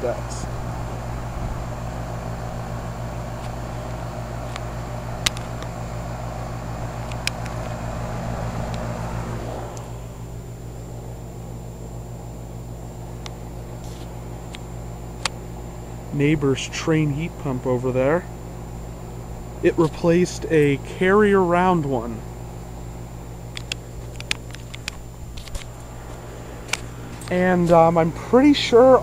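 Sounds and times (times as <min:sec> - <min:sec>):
compressor hum: 0:00.0 - 0:29.0
condenser fan rushing: 0:00.0 - 0:29.0.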